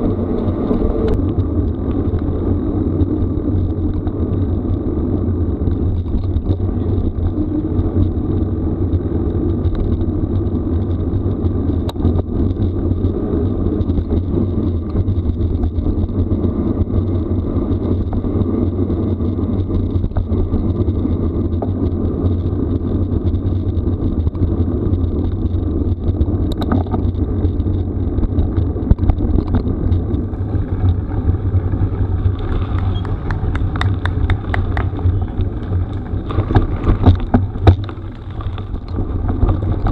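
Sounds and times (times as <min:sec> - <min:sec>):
tyres rumbling on gravel: 0:00.0 - 0:39.9
wind rumble: 0:00.0 - 0:39.9.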